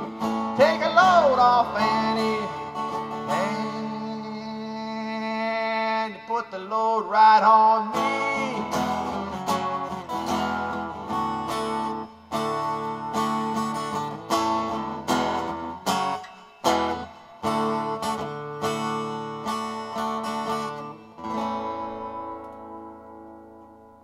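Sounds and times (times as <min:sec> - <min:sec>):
rock band with strummed guitar: 0:00.0 - 0:23.9.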